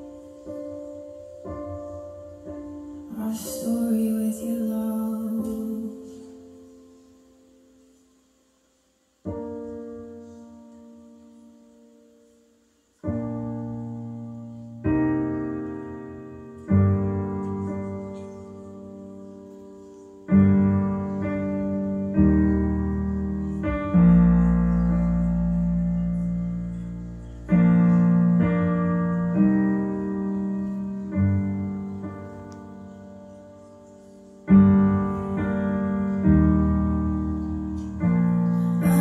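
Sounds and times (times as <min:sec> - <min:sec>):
slow piano music over loudspeakers: 0:00.0 - 0:39.0.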